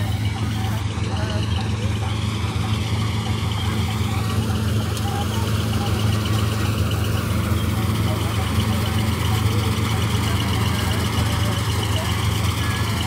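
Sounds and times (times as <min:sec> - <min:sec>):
combine harvester engine hum: 0:00.0 - 0:13.0
machinery rattle: 0:00.0 - 0:13.0.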